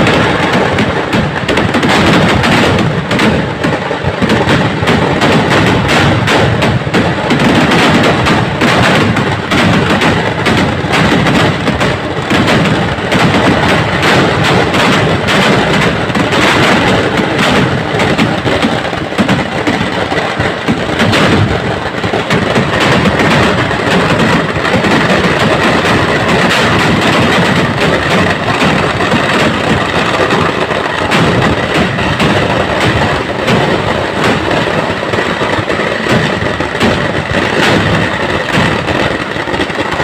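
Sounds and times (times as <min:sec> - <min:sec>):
fireworks crackling and booming: 0:00.0 - 0:40.0.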